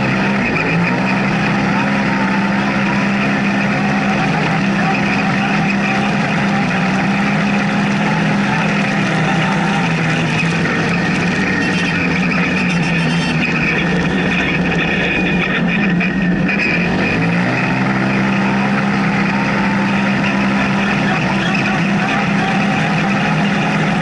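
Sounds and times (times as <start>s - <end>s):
engine droning: 0.0s - 24.0s.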